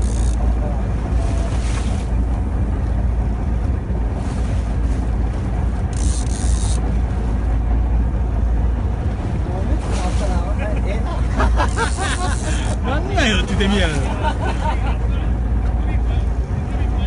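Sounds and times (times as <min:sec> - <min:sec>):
boat rumble: 0:00.0 - 0:17.0.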